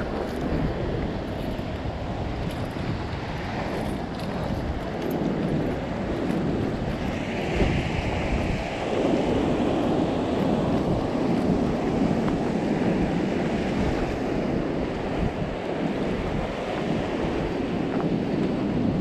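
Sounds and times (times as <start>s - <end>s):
surf breaking on rocks: 0.0s - 19.0s
wind buffeting microphone: 0.0s - 19.0s.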